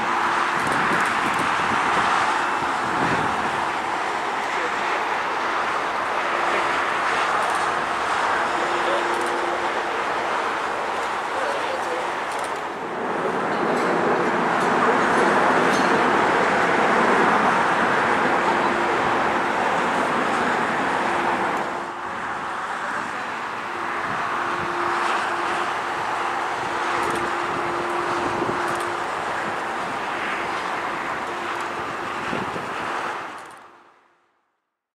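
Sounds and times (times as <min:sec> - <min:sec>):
distant jet engines rushing: 0:00.0 - 0:34.0.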